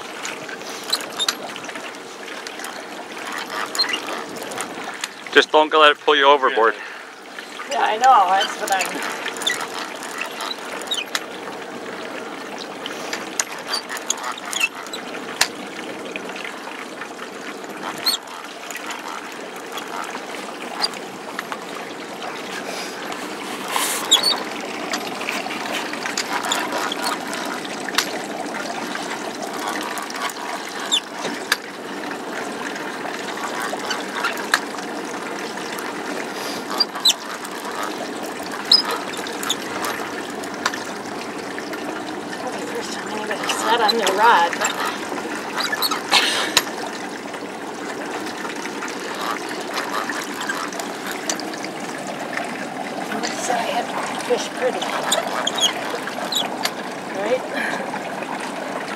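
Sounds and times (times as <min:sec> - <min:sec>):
water lapping against boat hull: 0:00.0 - 0:58.9.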